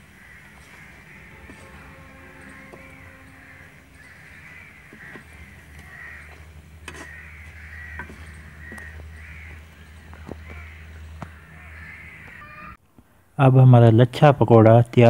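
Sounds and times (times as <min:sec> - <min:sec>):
crows cawing: 0:00.0 - 0:12.8.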